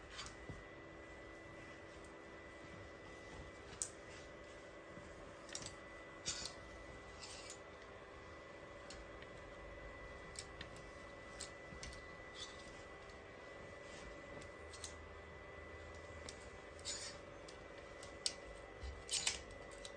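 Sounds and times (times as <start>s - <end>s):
cloth rustling: 0.0s - 19.8s
faint steady hum: 0.0s - 19.9s.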